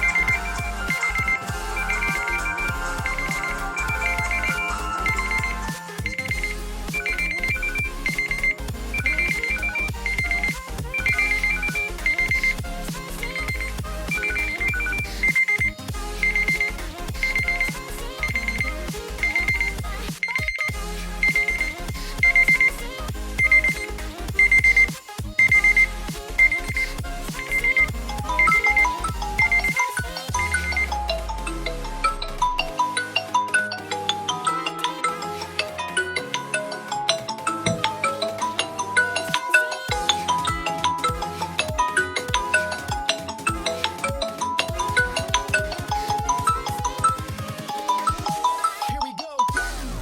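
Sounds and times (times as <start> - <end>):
phone alarm beeps: 0.0 - 12.6, 13.2 - 22.7, 23.4 - 26.8, 27.4 - 31.0, 36.0 - 49.6
ringtone melody: 0.0 - 50.0.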